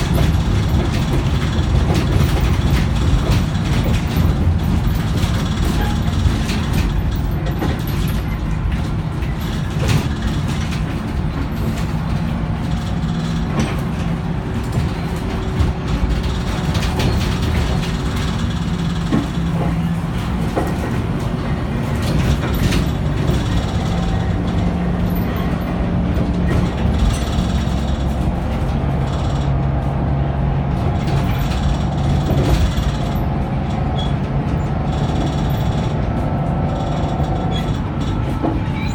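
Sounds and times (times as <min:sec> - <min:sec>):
body rattles and knocks: 0:00.0 - 0:38.9
bus engine drone: 0:00.0 - 0:38.9.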